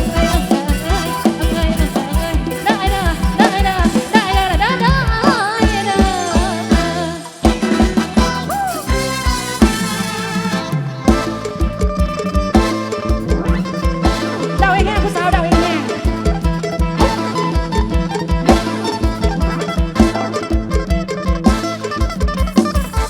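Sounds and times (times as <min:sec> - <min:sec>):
loud band music from loudspeakers: 0:00.0 - 0:23.0
pitch-bending lead melody: 0:00.0 - 0:23.0.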